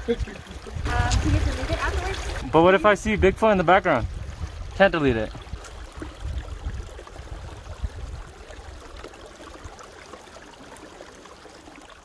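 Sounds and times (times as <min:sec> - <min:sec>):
stream flowing: 0:00.0 - 0:12.0.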